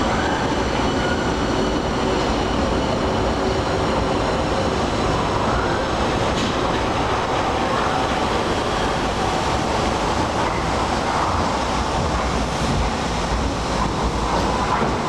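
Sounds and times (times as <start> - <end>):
metro train wheels on rail: 0.0 - 15.0.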